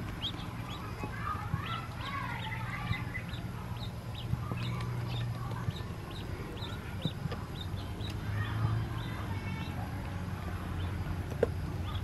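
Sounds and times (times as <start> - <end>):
ducklings peeping: 0.0 - 12.0
low steady hum: 0.0 - 12.0.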